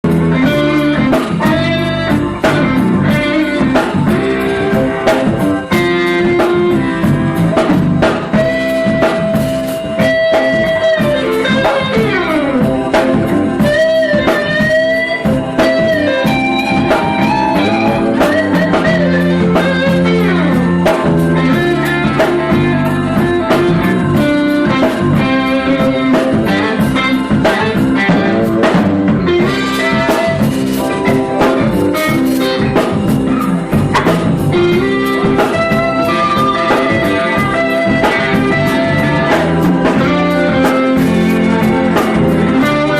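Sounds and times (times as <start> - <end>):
drum-kit beat: 0.0 - 42.9
electric guitar lead lines: 0.0 - 42.9.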